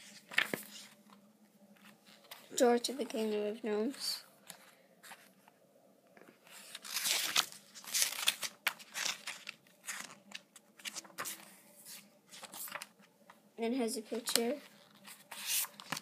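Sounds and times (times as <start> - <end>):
book pages turning: 0.0 - 1.2, 1.8 - 5.6, 6.2 - 13.1, 14.1 - 16.0.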